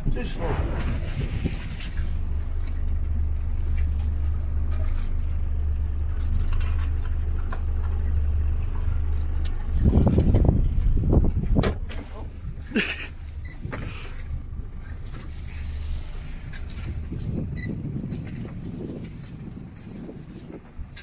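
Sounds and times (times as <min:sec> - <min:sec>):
outboard motor idling: 0:00.0 - 0:21.0.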